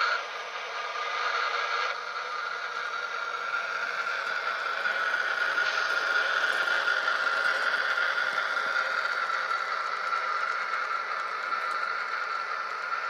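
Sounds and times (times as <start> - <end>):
high motor whine: 0.0 - 13.0
model train wheels rattling: 0.0 - 13.0.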